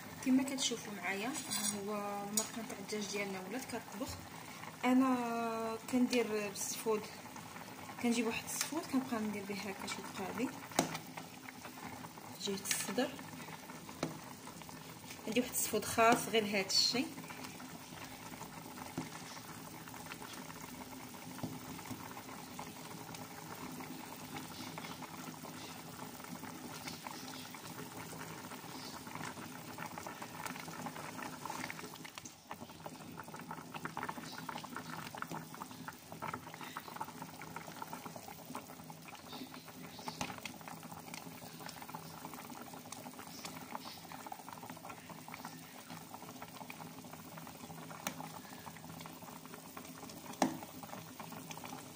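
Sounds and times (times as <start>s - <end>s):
broth boiling in a pot: 0.0s - 51.9s.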